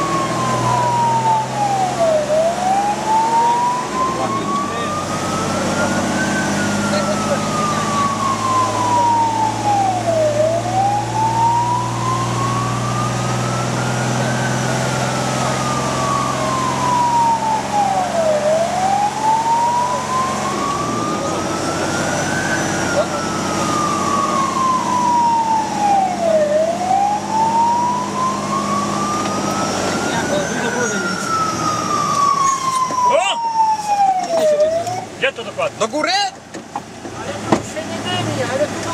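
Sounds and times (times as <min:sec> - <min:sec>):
fire engine siren wailing: 0:00.0 - 0:36.1, 0:37.2 - 0:38.9
diesel engine hum: 0:00.0 - 0:38.9.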